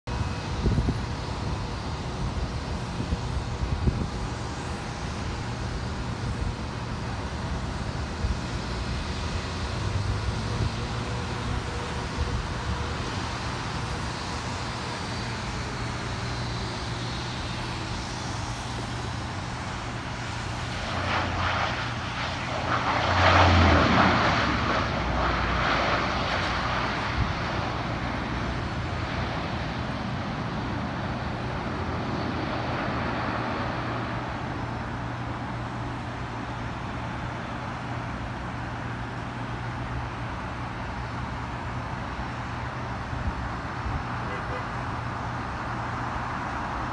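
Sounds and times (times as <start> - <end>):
turboprop engines droning: 0.0 - 46.9.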